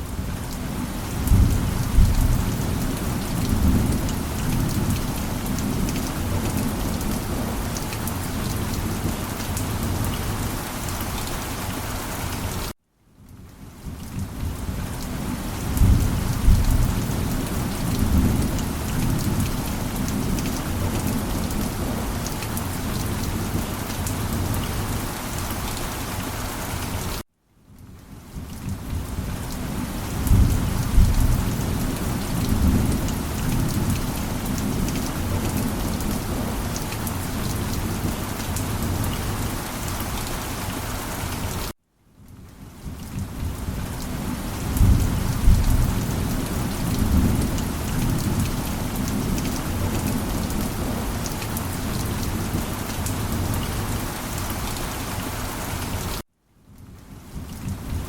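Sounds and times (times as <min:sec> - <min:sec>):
heavy rain: 0:00.0 - 0:27.2, 0:27.8 - 0:58.0.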